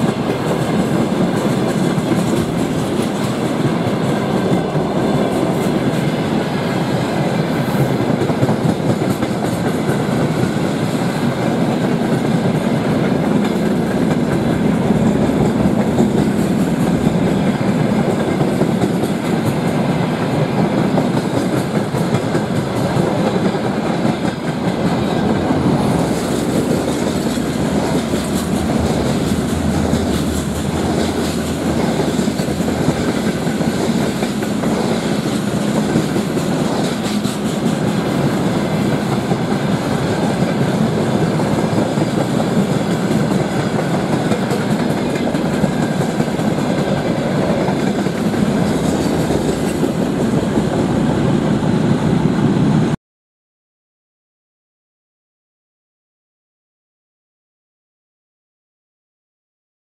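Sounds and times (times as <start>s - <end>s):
wheels clattering on rails: 0.0s - 51.0s
freight train rumbling past: 0.0s - 53.0s.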